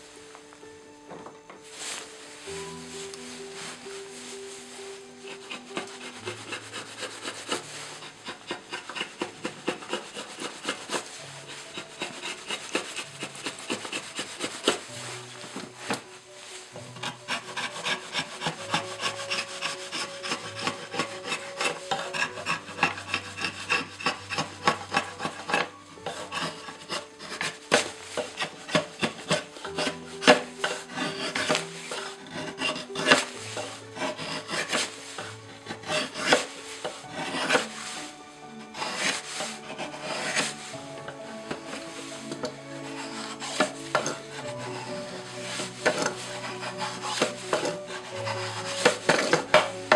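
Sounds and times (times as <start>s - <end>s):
quiet background music: 0.0s - 49.9s
wood rasp scraping wood: 2.5s - 49.9s.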